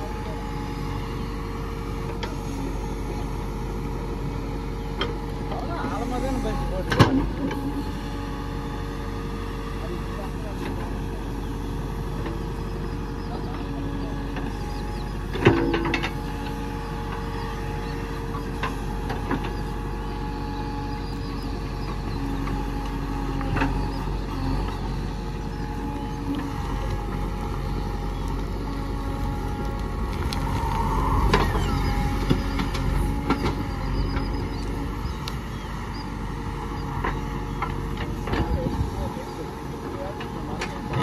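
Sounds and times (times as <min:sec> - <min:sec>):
diesel engine running: 0:00.0 - 0:41.0
hydraulic whine: 0:00.0 - 0:41.0.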